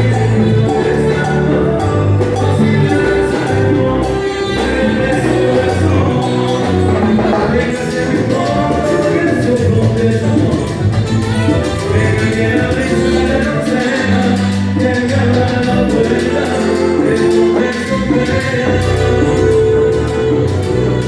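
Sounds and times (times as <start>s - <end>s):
latin dance orchestra playing: 0.0s - 21.0s.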